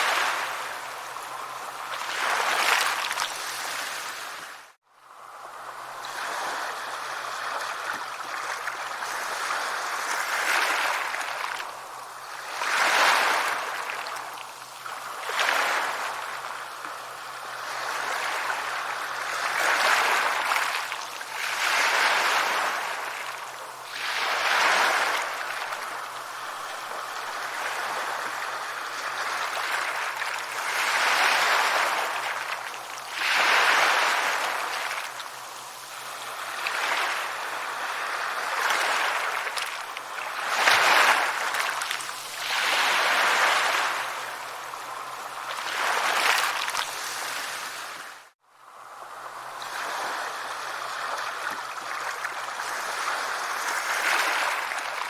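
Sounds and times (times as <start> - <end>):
sea waves breaking on beach: 0.0 - 55.0.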